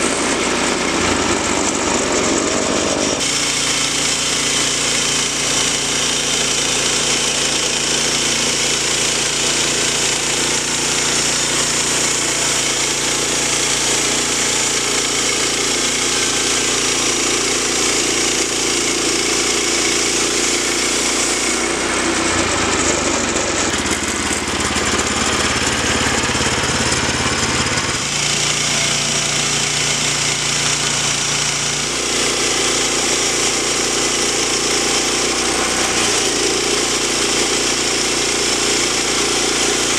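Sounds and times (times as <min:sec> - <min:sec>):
band blade cutting log: 0:00.0 - 0:39.9
bandsaw mill engine under load: 0:00.0 - 0:39.9.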